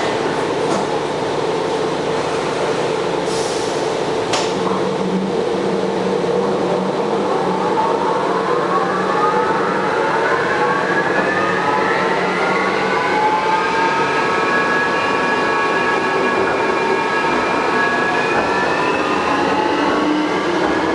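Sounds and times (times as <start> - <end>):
metro train whine rising in pitch: 0.0 - 20.9.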